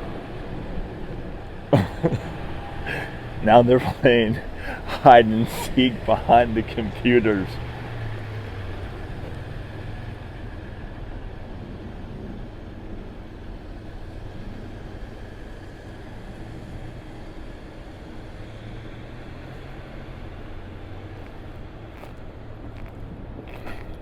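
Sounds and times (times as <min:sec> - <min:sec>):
constant low hum: 0:00.0 - 0:24.0
street noise rumble: 0:00.0 - 0:24.0.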